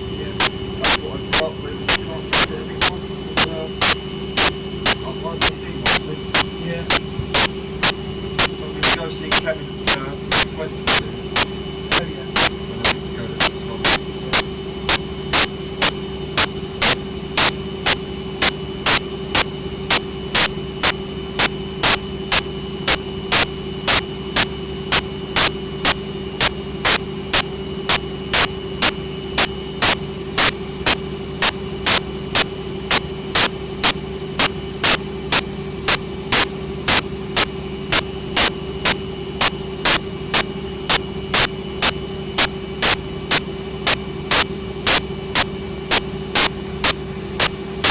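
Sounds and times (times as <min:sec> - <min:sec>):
washing machine humming: 0:00.0 - 0:47.9
sharp repeating click: 0:00.4 - 0:47.9.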